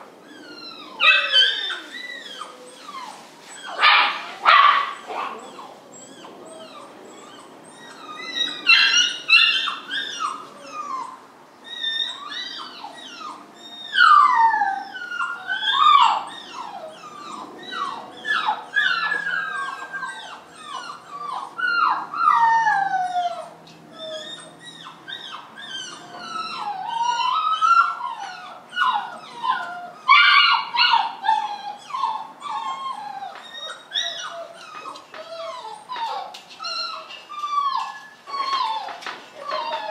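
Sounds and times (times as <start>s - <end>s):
puppy whining and yelping: 0.0s - 39.9s.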